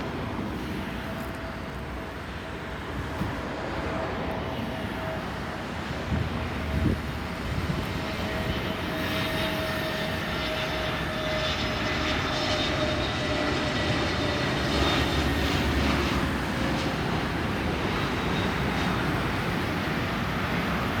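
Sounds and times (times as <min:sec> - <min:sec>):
jet engine whine: 0:00.0 - 0:21.0.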